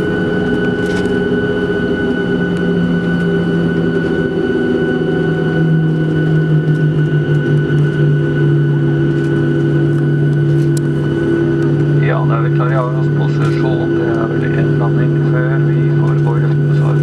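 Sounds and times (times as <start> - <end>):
jet engines humming and whining: 0.0 - 17.0.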